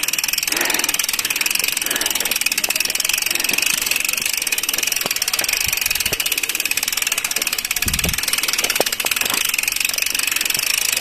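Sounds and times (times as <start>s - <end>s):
bicycle freewheel clicking: 0.0s - 11.0s.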